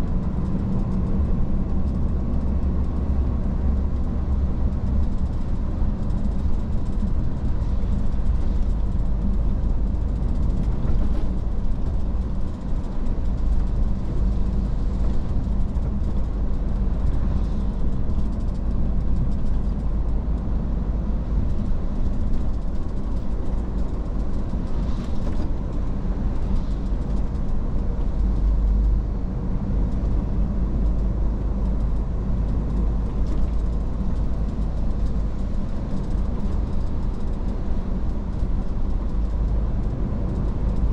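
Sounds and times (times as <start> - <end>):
road and tyre noise: 0.0 - 40.9.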